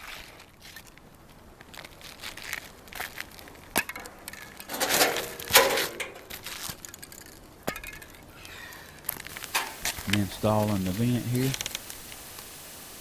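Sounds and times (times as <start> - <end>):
shingles scraping and crinkling: 0.0 - 12.3.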